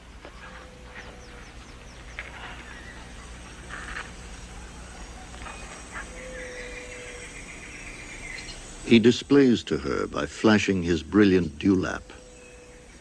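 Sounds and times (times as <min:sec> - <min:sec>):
bird calls: 0:00.0 - 0:13.0
faint steady hum: 0:00.0 - 0:13.0.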